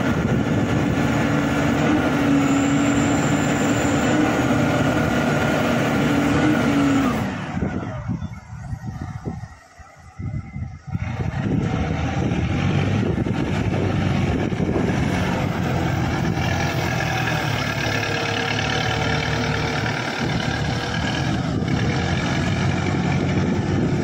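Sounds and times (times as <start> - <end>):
forklift diesel engine running: 0.0 - 24.0.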